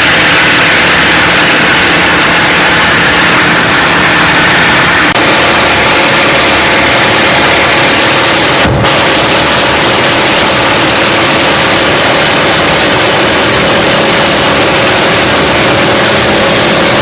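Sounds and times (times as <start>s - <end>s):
radial aircraft engines running: 0.0s - 17.0s.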